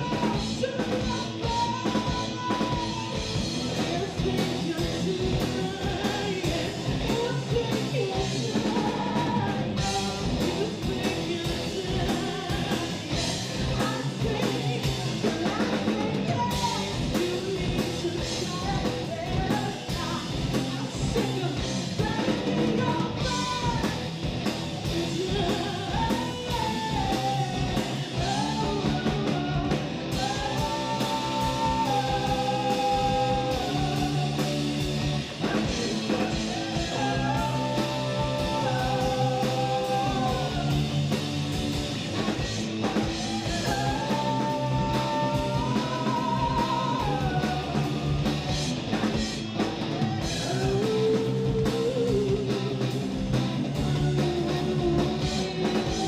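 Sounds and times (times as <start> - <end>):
woman singing: 0.0 - 24.1, 24.9 - 41.0, 42.2 - 48.2, 49.9 - 53.0, 53.6 - 56.0
drum kit beat: 0.0 - 56.0
electric bass: 0.0 - 56.0
electric guitar: 0.0 - 56.0.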